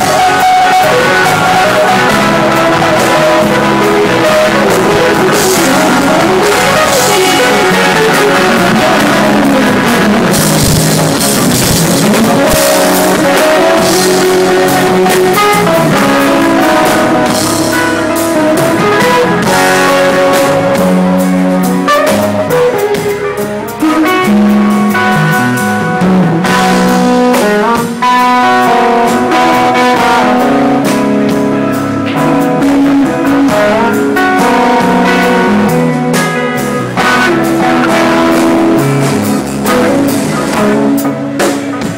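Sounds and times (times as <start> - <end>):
drum kit: 0.0 - 41.9
electric guitar bending notes: 0.0 - 41.9.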